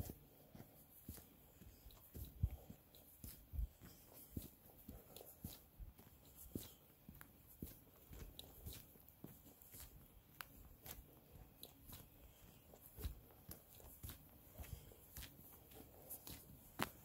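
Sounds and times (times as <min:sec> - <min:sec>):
faint footsteps on trail: 0:00.0 - 0:17.0.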